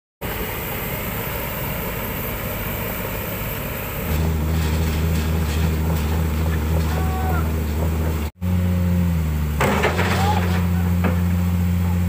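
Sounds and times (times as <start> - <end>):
diesel excavator engine running: 0.2 - 12.0.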